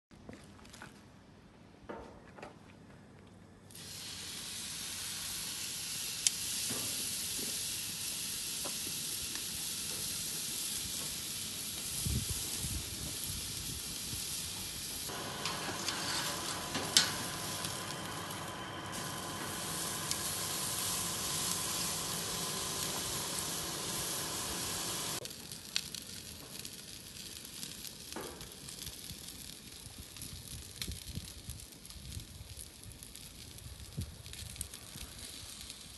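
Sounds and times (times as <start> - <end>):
beef sizzling on grill: 3.7 - 35.9.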